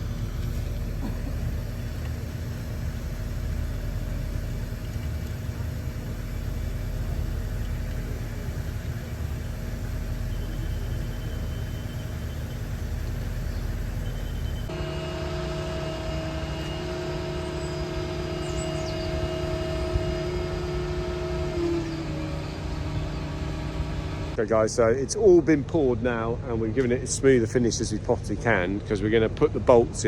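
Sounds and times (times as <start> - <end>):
faint steady tones: 0.0 - 24.4
diesel truck engine rumbling: 0.0 - 25.0.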